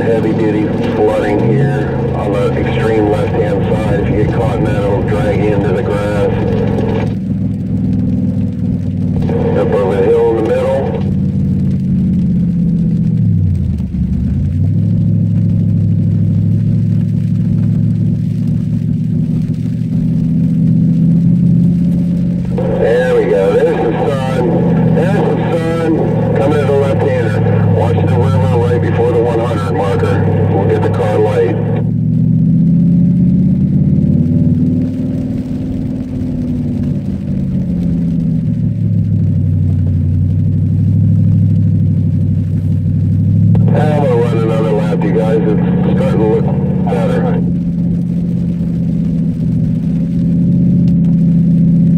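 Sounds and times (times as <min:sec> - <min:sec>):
car engine under throttle: 0:00.0 - 0:51.9.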